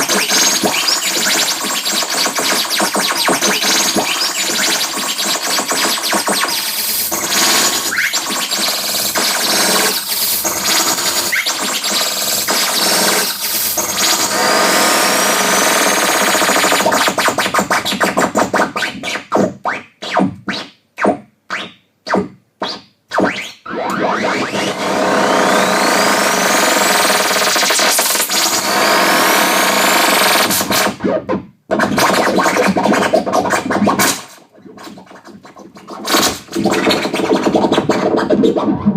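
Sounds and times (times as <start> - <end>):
chopped stuttering bursts: 0.0 - 20.6, 23.1 - 38.9.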